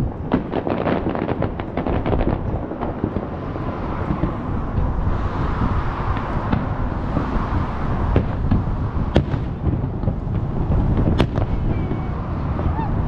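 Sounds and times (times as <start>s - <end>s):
distant firework bursts rumbling: 0.0s - 13.0s
sharp firework cracks: 0.0s - 13.0s.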